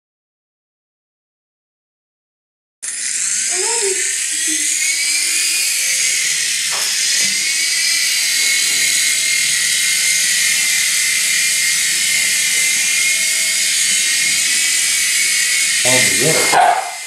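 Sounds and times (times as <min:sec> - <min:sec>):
toy helicopter whine: 0:02.8 - 0:17.0.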